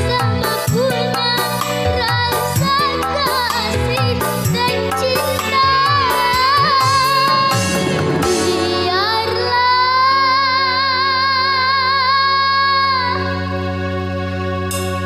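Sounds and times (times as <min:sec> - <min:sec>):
girl singing in a high voice: 0:00.0 - 0:13.5
instrumental accompaniment: 0:00.0 - 0:15.0.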